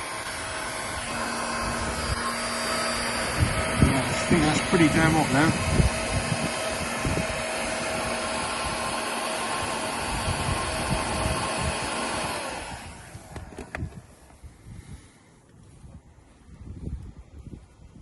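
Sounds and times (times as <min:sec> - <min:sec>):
heat gun blowing: 0:00.0 - 0:15.2.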